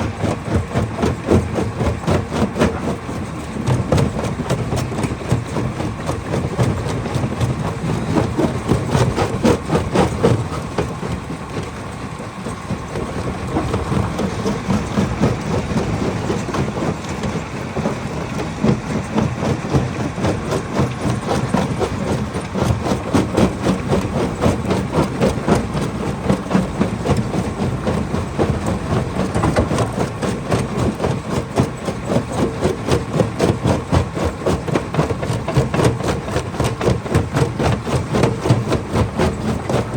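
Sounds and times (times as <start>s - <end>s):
low machine drone: 0.0s - 39.9s.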